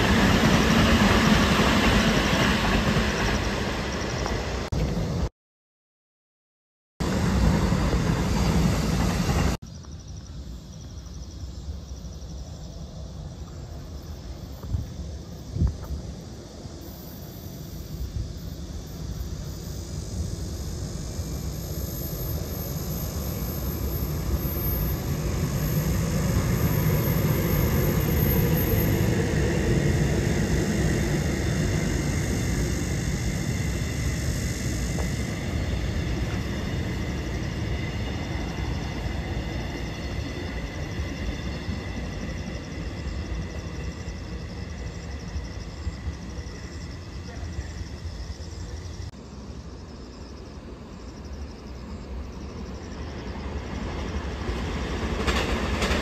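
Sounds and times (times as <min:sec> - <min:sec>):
passenger train passing: 0:00.0 - 0:05.3, 0:07.0 - 0:56.0.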